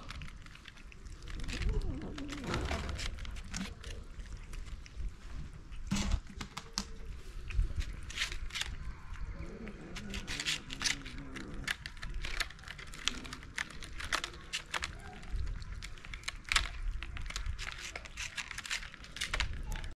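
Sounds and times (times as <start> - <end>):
cats chewing and lapping: 0.0 - 20.0.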